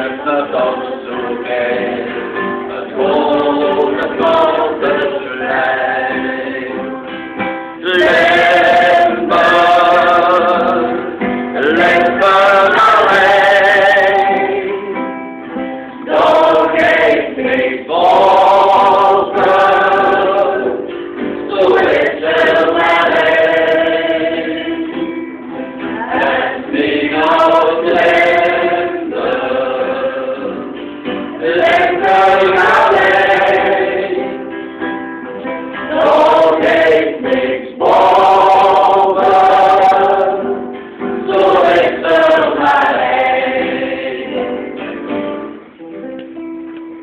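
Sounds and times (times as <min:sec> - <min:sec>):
church choir singing: 0:00.0 - 0:45.8.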